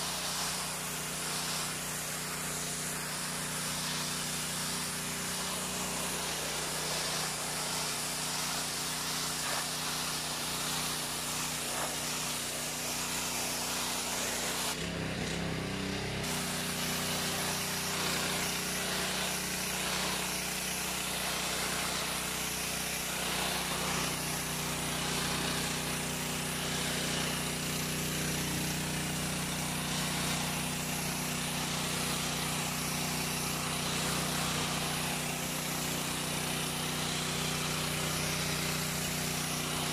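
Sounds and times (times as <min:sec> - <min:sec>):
high-pressure spray hissing on paving: 0:00.0 - 0:39.9
pressure washer engine hum: 0:00.0 - 0:39.9.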